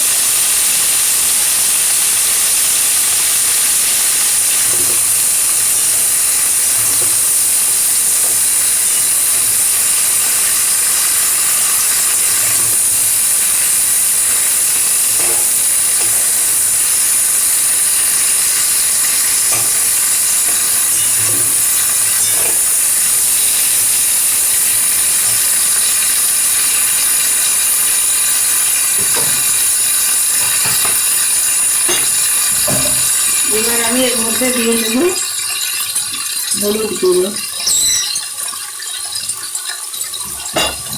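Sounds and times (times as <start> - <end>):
vegetables sizzling in oil: 0.0 - 40.9.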